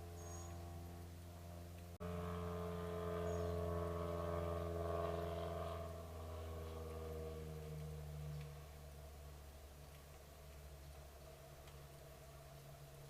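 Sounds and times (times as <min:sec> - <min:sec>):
low mechanical engine drone: 0:00.0 - 0:13.0.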